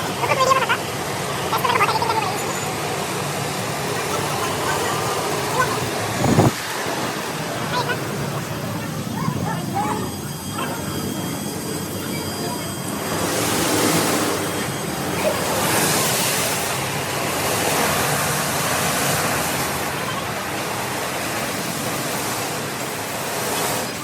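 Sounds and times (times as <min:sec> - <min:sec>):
water jets spraying onto car: 0:00.0 - 0:09.0, 0:13.0 - 0:24.0.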